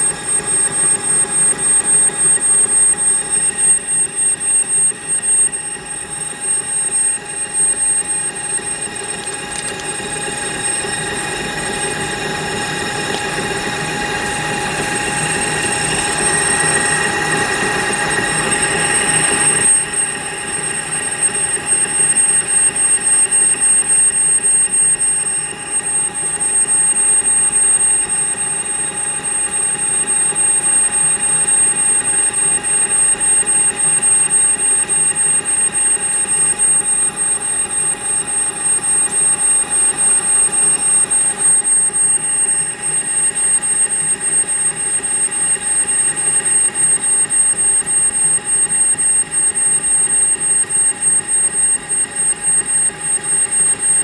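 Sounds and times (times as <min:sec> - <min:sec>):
high-pitched whine: 0:00.0 - 0:54.0.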